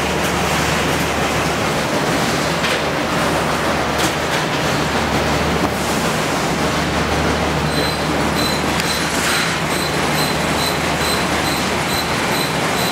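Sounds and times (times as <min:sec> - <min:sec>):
low machinery hum: 0:00.0 - 0:12.9.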